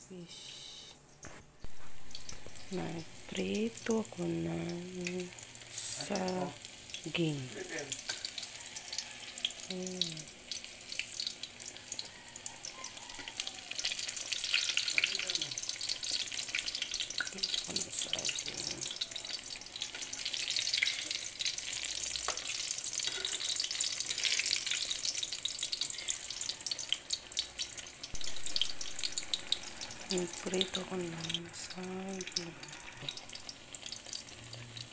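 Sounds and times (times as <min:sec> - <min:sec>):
bananas sizzling in hot oil: 0:01.2 - 0:34.9.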